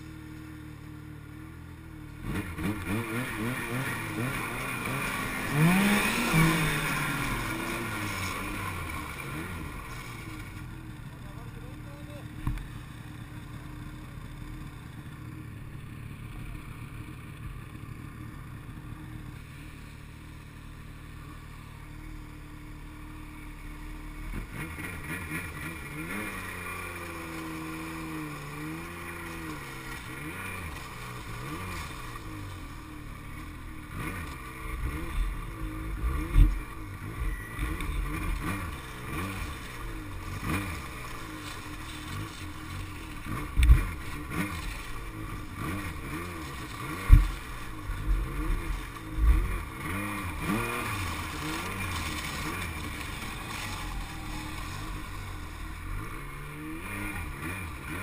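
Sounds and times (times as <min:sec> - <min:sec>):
snowmobile engine revving: 0:01.0 - 0:17.0, 0:17.6 - 0:58.0.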